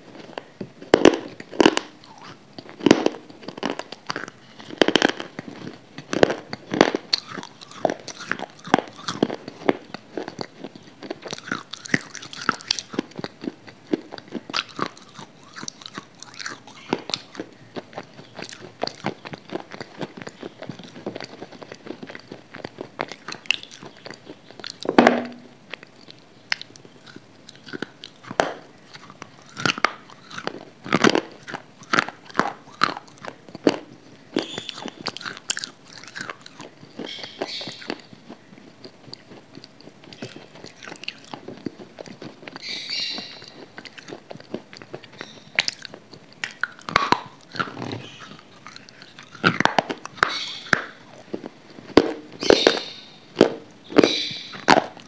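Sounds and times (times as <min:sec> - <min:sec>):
person chewing crunchy chunks: 0:00.0 - 0:55.0.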